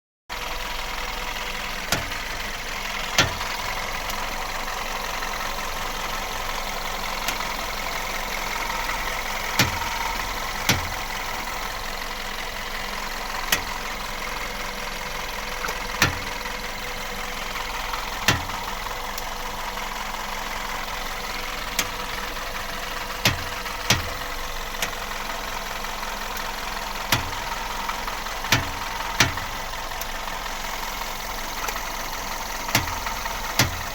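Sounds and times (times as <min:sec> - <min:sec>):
car engine idling: 0:00.3 - 0:33.9.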